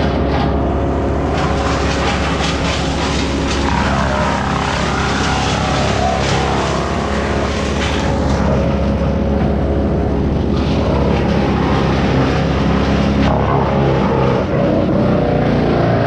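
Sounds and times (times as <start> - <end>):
small gasoline engine running: 1.0 - 15.4.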